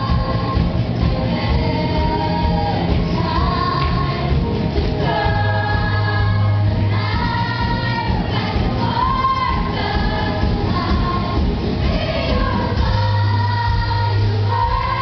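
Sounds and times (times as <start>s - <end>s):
choir singing a pop song: 0.0s - 15.0s
instrumental accompaniment with bass: 0.0s - 15.0s.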